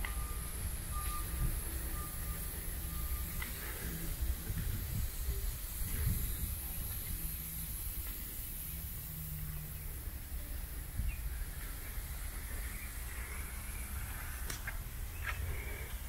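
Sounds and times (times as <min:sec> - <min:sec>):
constant high hiss: 0:00.0 - 0:16.0
steady low rumble: 0:00.0 - 0:16.0.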